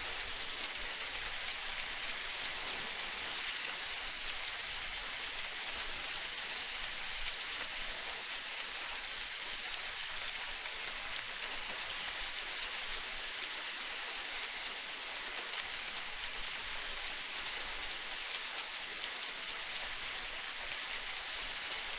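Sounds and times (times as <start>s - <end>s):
water hiss with crackling ticks: 0.0s - 21.9s.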